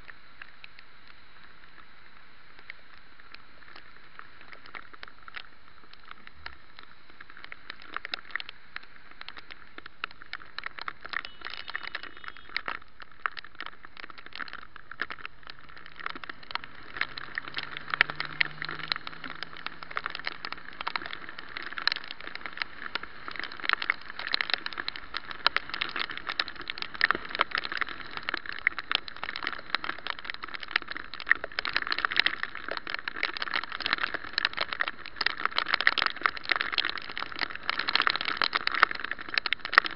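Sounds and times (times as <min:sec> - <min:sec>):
muffled hiss of wet road: 0:00.0 - 0:39.9
raindrops ticking on camera housing: 0:00.0 - 0:39.9.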